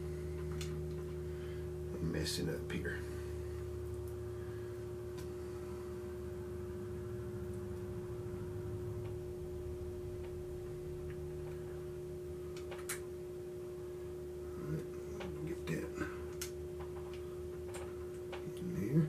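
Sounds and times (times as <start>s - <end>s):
steady hum with held tone: 0.0s - 19.0s.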